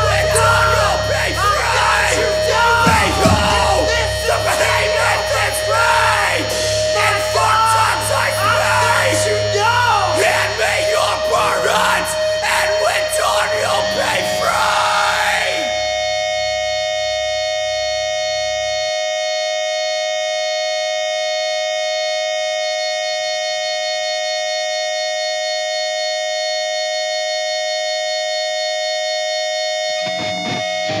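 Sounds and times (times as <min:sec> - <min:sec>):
electric guitar feedback tone: 0:00.0 - 0:31.0.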